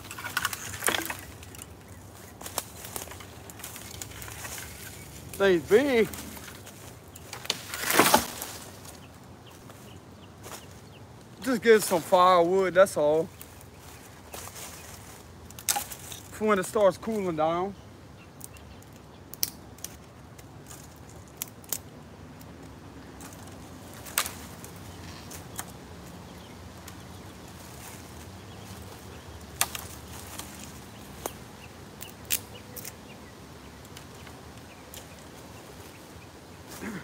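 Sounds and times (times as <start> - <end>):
faint outdoor background: 0.0 - 37.0
twigs and leaves crackling: 0.0 - 37.0.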